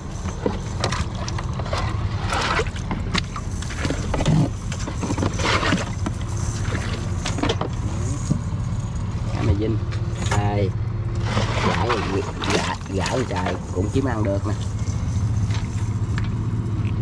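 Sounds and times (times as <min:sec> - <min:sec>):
boat motor humming: 0:00.0 - 0:17.0
knocks and clatters in boat: 0:00.0 - 0:17.0.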